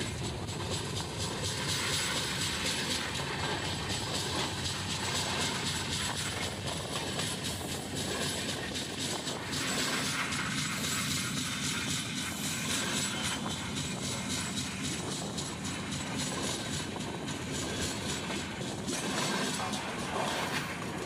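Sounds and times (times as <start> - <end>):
train wheels rumbling and rattling: 0.0 - 21.0.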